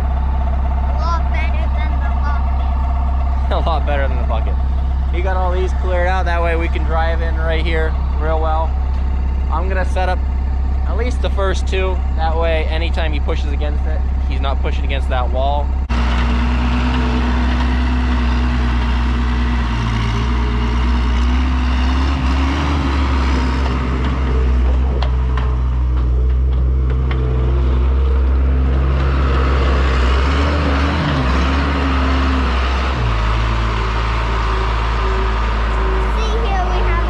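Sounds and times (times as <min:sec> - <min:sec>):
skid steer diesel engine: 0:00.0 - 0:37.0.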